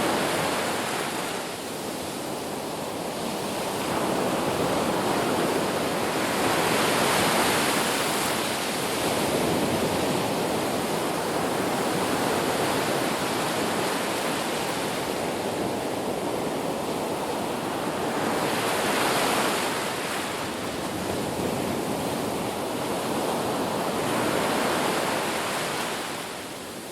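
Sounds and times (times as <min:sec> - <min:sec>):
ocean waves breaking on beach: 0:00.0 - 0:26.9.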